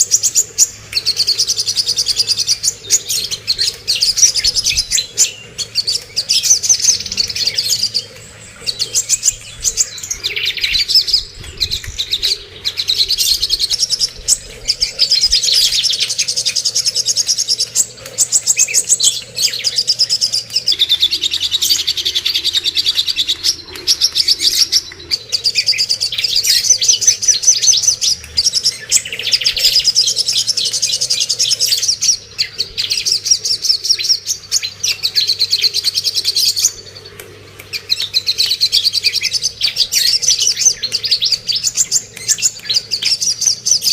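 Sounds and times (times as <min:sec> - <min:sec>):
bird singing fast chattering song: 0:00.0 - 0:43.9.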